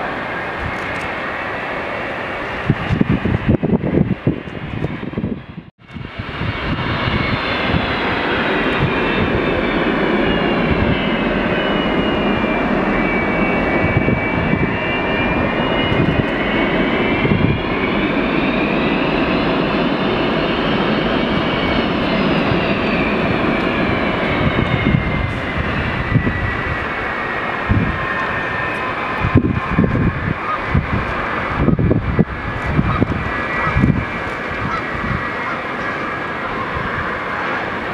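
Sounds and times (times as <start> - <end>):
high engine whine: 0.0 - 37.9
jet engines roaring: 0.0 - 37.9.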